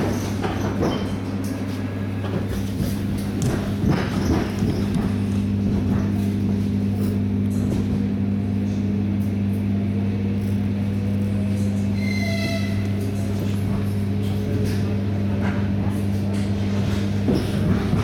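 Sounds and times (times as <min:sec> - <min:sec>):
train low hum: 0:00.0 - 0:18.0
wheels rumbling on track: 0:00.0 - 0:18.0.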